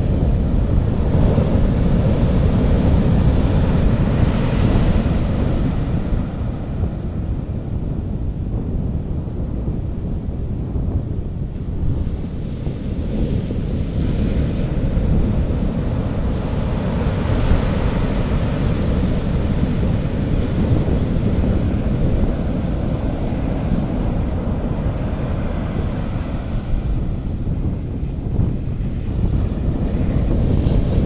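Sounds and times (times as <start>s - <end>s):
sea waves washing onto beach: 0.0s - 7.5s, 11.6s - 31.0s
wind rumbling on microphone: 0.0s - 31.0s.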